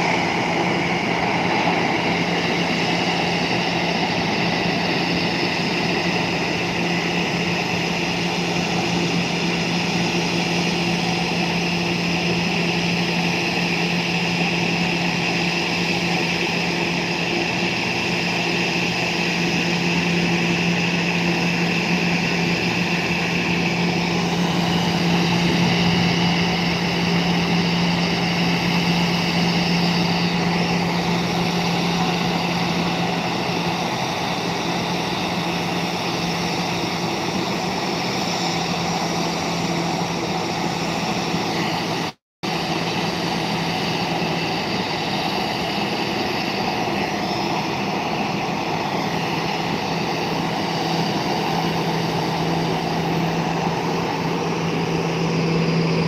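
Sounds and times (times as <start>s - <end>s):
jet engines idling whine: 0.0s - 56.0s.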